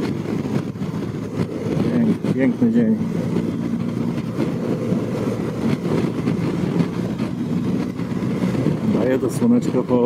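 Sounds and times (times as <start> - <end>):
motorcycle engine cruising: 0.0 - 10.0
wind rush while riding: 0.0 - 10.0.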